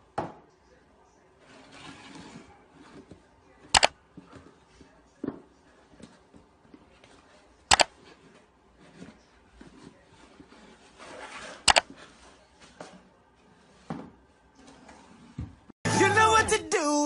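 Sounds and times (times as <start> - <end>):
faint room noise: 0.0 - 15.7.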